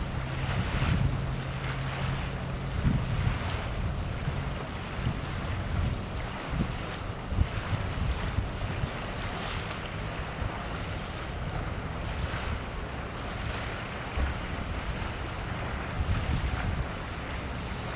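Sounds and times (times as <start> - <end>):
small waves on shore: 0.0 - 17.9
wind buffeting microphone: 0.0 - 17.9.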